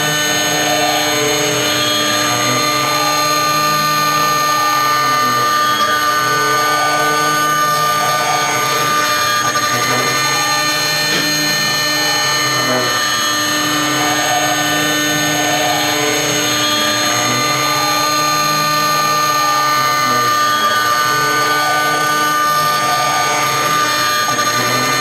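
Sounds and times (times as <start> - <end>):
end mill cutting metal: 0.0 - 25.0
router spindle whine: 0.0 - 25.0.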